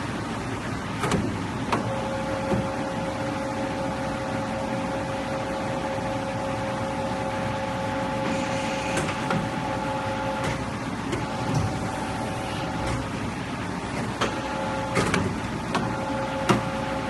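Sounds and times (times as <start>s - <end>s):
pipe bending machine running: 0.2s - 17.0s
two-tone machine whine: 1.1s - 13.6s, 14.2s - 17.0s.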